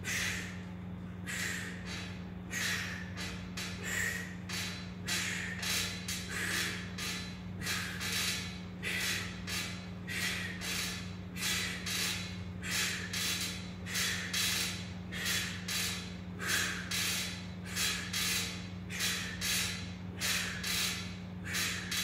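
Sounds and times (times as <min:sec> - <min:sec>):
man breathing hard through nose: 0:00.0 - 0:22.0
steady low hum: 0:00.0 - 0:22.0.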